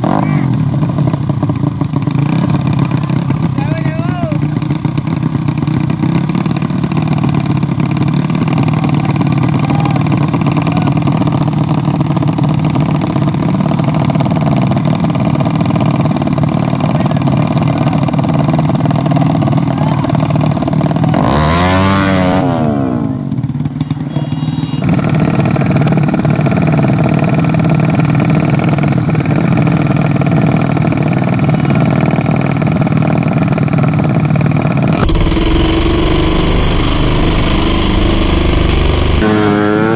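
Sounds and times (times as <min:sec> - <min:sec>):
motorcycle engine revving: 0:00.0 - 0:39.9
motorcycle engines running: 0:00.0 - 0:39.9.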